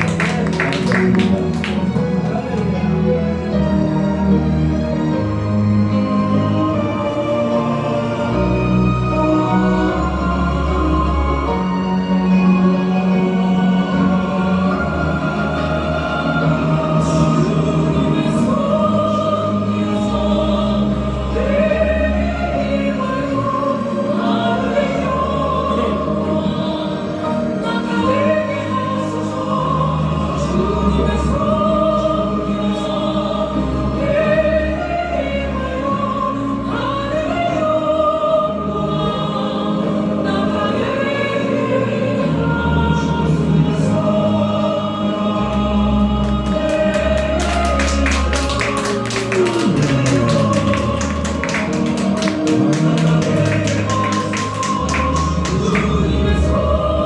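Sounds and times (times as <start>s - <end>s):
choir singing worship song: 0.0s - 57.0s
instrumental accompaniment: 0.0s - 57.0s.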